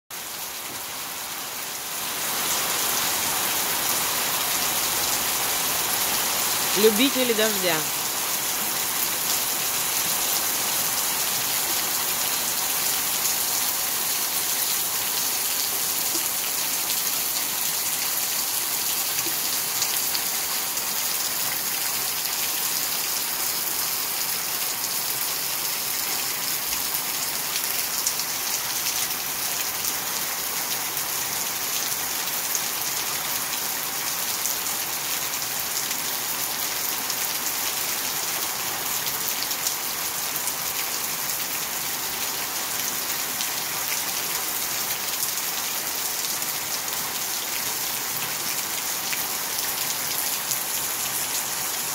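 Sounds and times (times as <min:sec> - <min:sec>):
heavy rain falling: 0:00.2 - 0:51.9.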